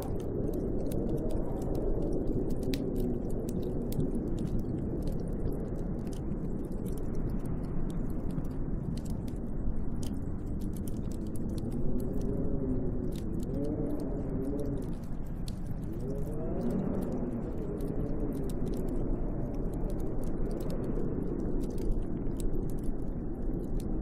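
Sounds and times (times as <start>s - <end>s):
faint ticks: 0.0s - 24.0s
wind blowing: 0.0s - 24.0s.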